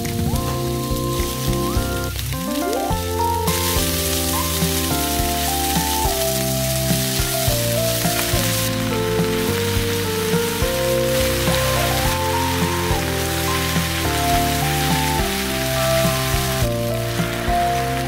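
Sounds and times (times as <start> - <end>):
background music with simple melody: 0.0 - 18.0
vegetables sizzling in a frying pan: 0.0 - 18.0.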